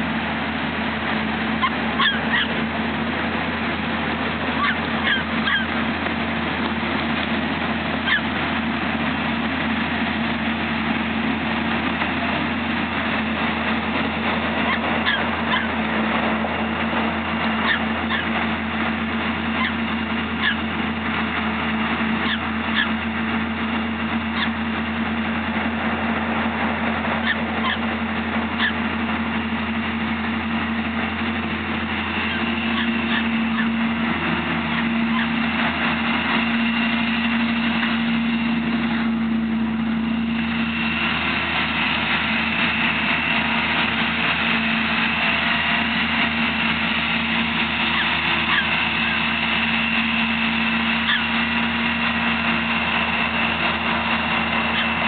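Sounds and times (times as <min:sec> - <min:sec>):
corn picker mechanical drone: 0:00.0 - 0:55.0
high-pitched whine: 0:00.0 - 0:55.0.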